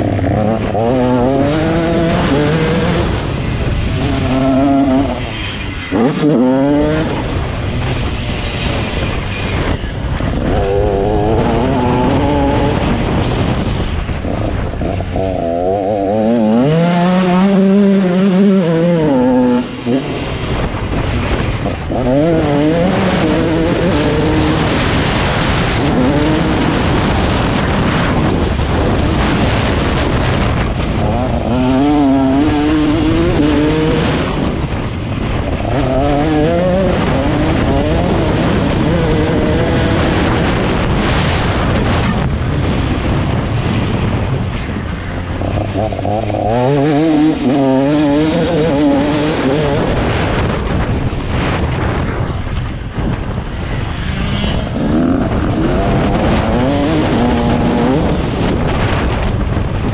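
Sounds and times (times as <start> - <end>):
motocross bike engine revving: 0.0 - 7.5, 9.6 - 42.8, 45.2 - 52.0, 53.9 - 59.1.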